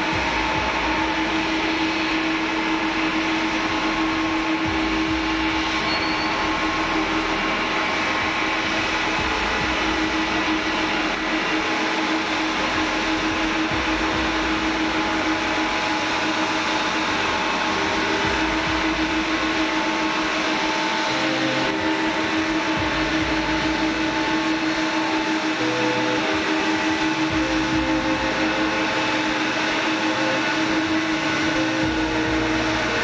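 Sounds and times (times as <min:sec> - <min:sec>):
engine whine: 0:00.0 - 0:33.0
jet engines running: 0:00.0 - 0:33.0.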